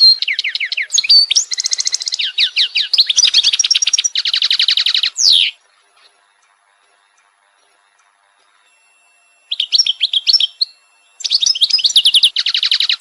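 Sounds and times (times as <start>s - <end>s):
songbird singing trills: 0.0s - 13.0s.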